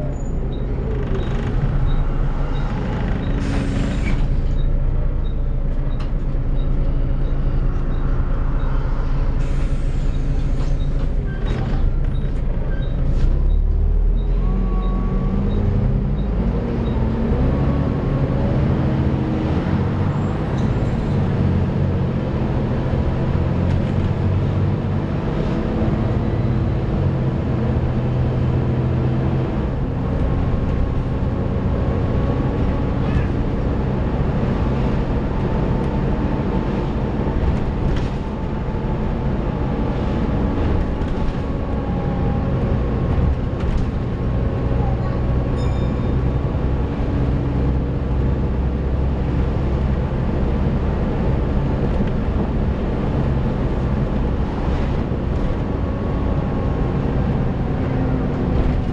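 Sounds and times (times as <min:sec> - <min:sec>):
bus body rattles: 0:00.0 - 0:08.6, 0:09.7 - 0:17.6, 0:19.4 - 0:58.9
bus diesel engine: 0:00.0 - 0:58.9.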